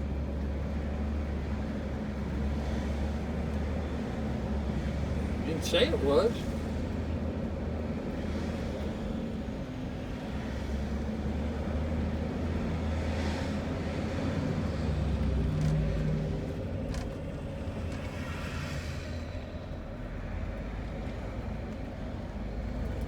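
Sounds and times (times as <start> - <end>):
motorhome engine droning: 0.0 - 23.0
road noise while driving: 0.0 - 23.0.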